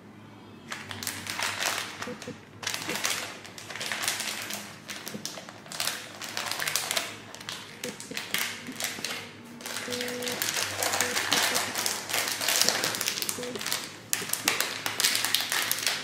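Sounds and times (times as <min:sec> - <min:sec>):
plastic sleeve crinkling: 0:00.7 - 0:16.0.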